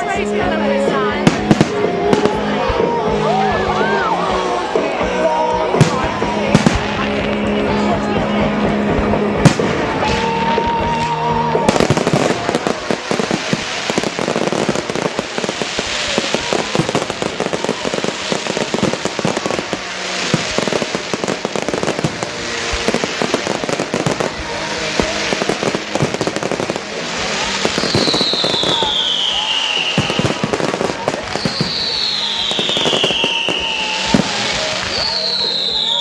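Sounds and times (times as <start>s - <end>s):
fireworks crackling: 0.0s - 36.0s
music playing: 0.0s - 36.0s.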